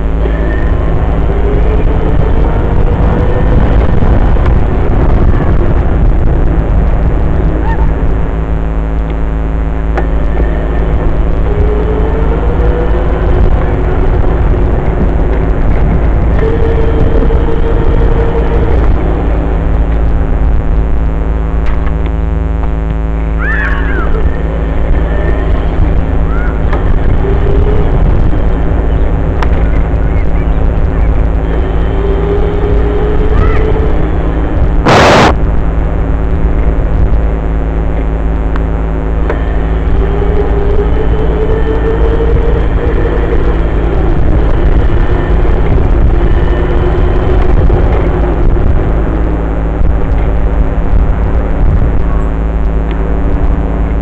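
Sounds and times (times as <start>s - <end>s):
dirt bike engine running: 0.0s - 54.0s
heavy low rumble: 0.0s - 54.0s.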